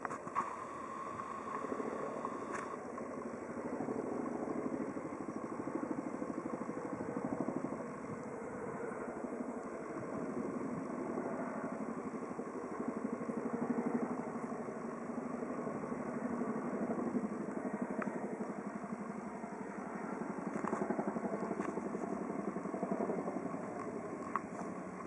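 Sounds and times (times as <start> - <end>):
helicopter rotor blades beating: 0.0 - 25.0.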